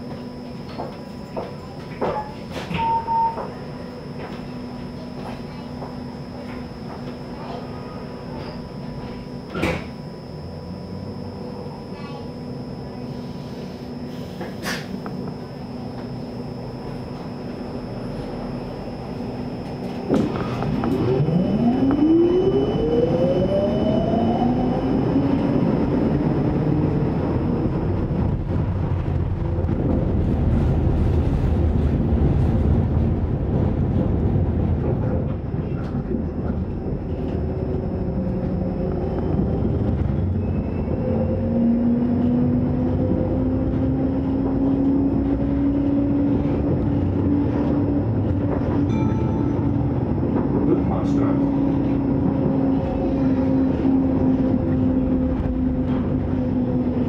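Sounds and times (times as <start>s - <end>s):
tram traction motors whining: 0.0s - 57.0s
wheels rumbling on rail: 0.0s - 57.0s.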